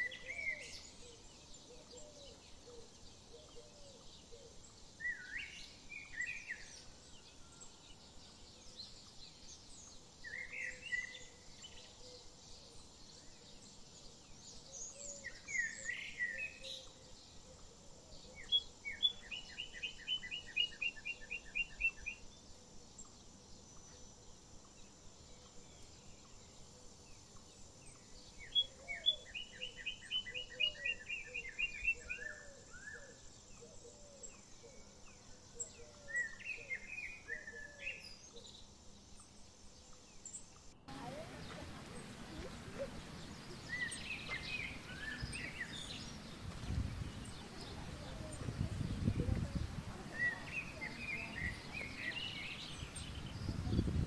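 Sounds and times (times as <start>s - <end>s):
birds chirping: 0.0s - 54.0s
faint steady hiss: 0.0s - 54.0s.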